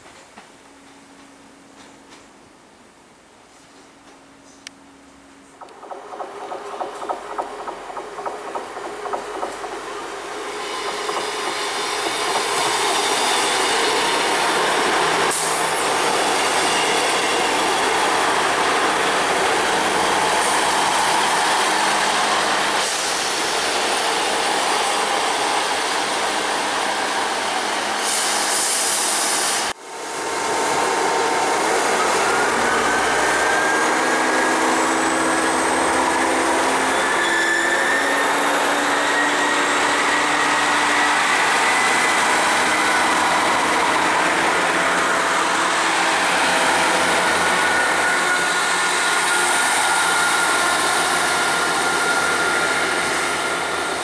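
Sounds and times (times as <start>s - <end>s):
train wheels on rails: 0.0s - 2.4s, 3.5s - 54.0s
diesel train engine pulling away: 5.6s - 54.0s.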